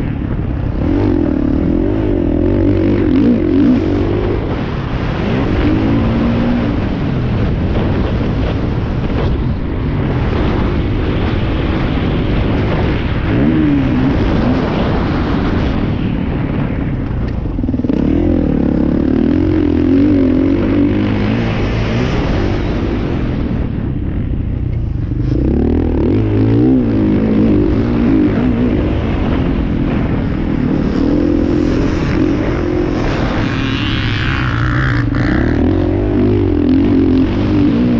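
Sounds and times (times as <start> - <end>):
motocross motorcycle engines: 0.0 - 37.9.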